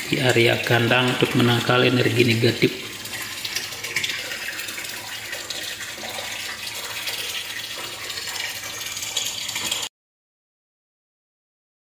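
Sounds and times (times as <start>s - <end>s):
running water: 0.0s - 9.9s.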